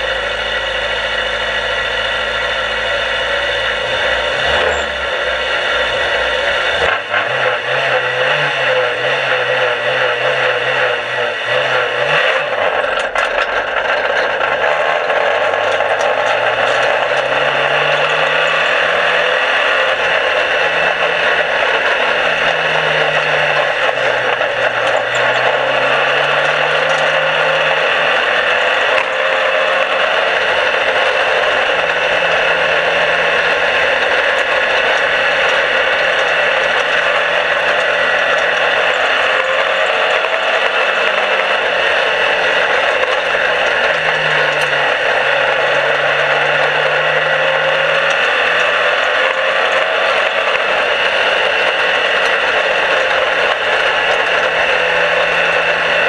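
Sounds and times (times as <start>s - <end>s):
race car engine roaring: 0.0s - 56.0s
cockpit rattle: 2.8s - 56.0s.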